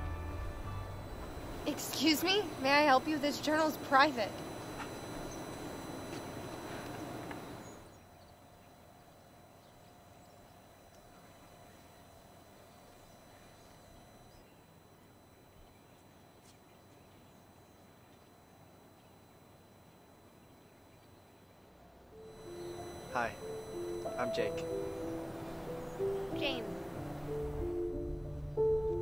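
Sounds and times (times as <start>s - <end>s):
faint steady tone: 0.0s - 29.0s.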